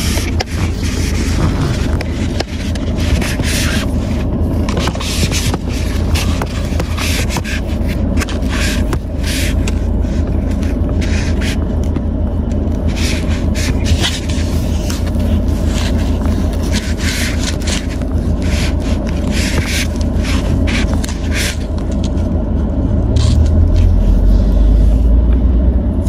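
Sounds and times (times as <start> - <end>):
hand scraping phone against mount: 0.0 - 22.2
car rumble from inside cabin: 0.0 - 26.0.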